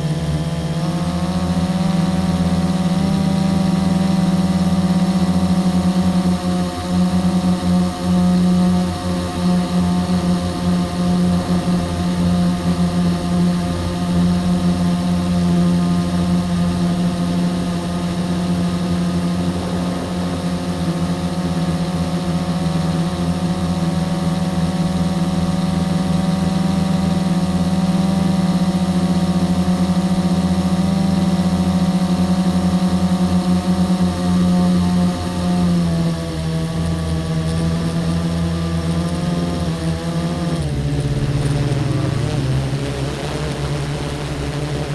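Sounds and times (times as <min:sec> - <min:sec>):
engine humming steadily: 0:00.0 - 0:44.9.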